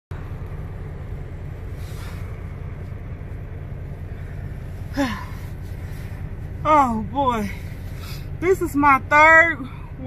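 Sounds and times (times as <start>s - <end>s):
diesel truck engine rumble: 0.1s - 10.0s.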